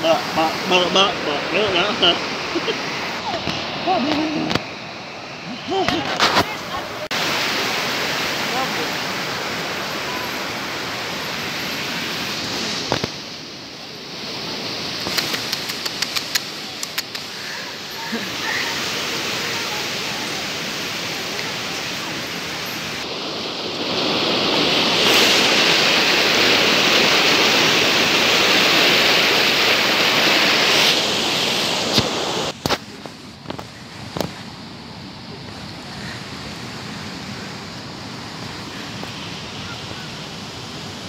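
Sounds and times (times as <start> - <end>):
rushing mountain stream: 0.0 - 41.0.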